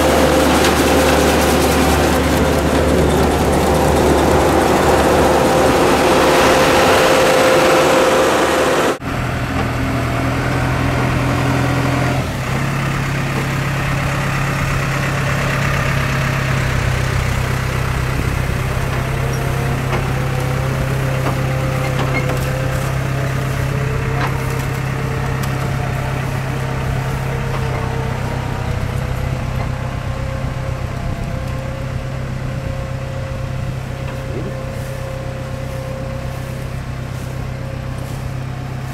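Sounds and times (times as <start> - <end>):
harvester engine drone: 0.0 - 38.9.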